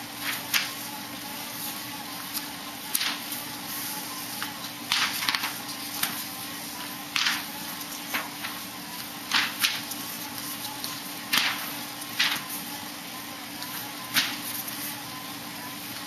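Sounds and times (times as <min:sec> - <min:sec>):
paper rustling and crackling: 0:00.2 - 0:15.2.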